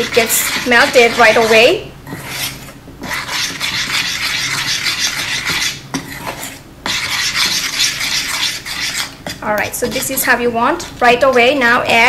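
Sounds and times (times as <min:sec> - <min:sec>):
metal spoon scraping saucepan: 0:00.0 - 0:12.0.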